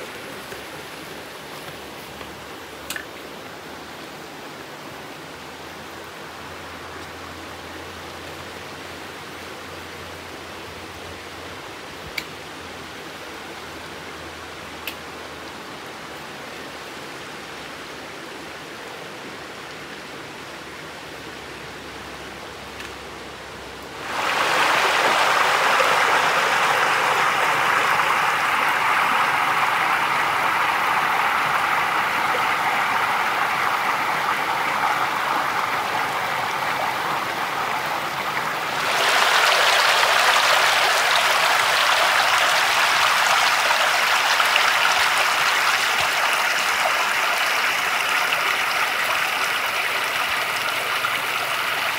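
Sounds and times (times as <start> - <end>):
stream water rushing over rocks: 0.0 - 51.9.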